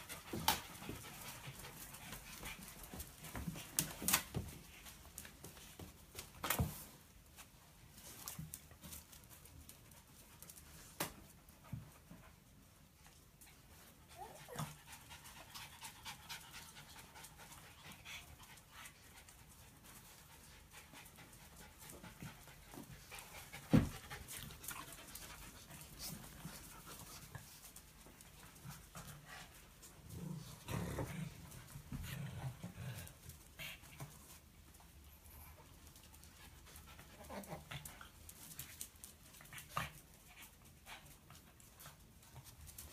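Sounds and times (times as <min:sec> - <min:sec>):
small dogs panting: 0:00.0 - 0:05.9, 0:11.4 - 0:42.9.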